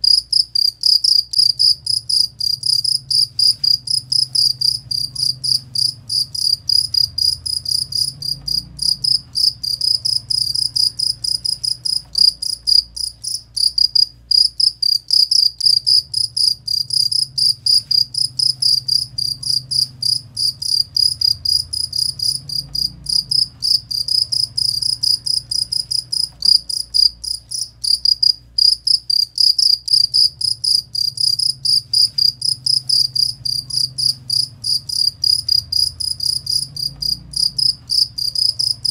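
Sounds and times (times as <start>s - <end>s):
cricket chirping trill: 0.0s - 38.9s.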